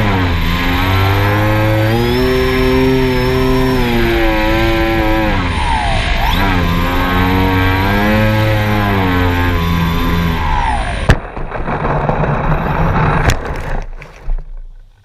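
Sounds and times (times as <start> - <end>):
drone propellers whining: 0.0 - 13.4
rushing noise: 0.0 - 14.6.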